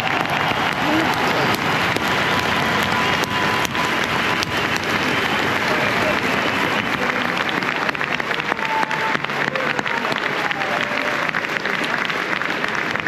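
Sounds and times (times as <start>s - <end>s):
crowd applauding: 0.0s - 13.0s
crowd shouting: 0.0s - 13.0s.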